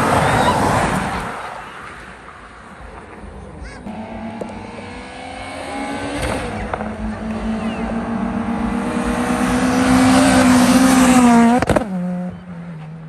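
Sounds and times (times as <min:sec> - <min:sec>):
car passing: 0:00.0 - 0:13.0
steady car engine hum: 0:00.0 - 0:13.0.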